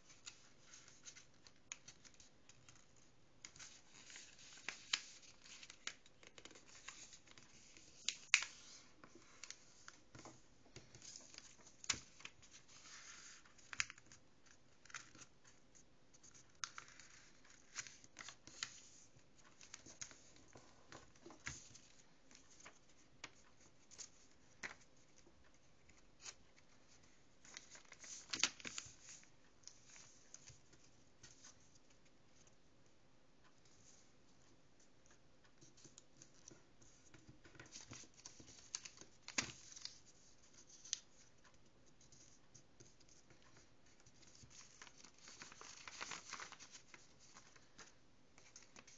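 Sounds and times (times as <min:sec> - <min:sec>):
paper rustling while folded: 0:00.0 - 0:32.0, 0:33.4 - 0:48.9
paper taps and crinkles: 0:00.0 - 0:32.5, 0:33.4 - 0:48.9.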